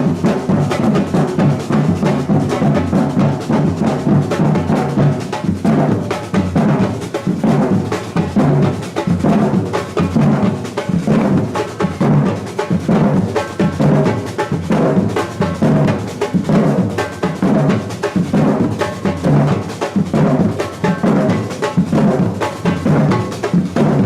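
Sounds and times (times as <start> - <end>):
bass drums: 0.0 - 24.0
hand percussion: 0.0 - 24.0.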